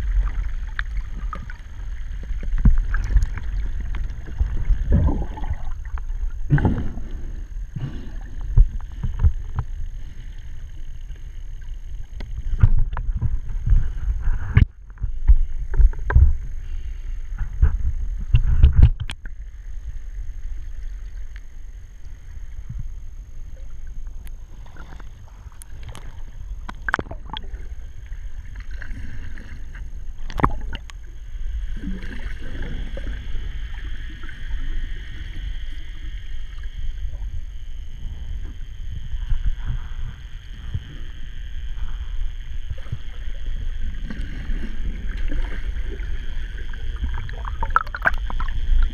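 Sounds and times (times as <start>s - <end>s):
muffled underwater rush: 0.0s - 48.9s.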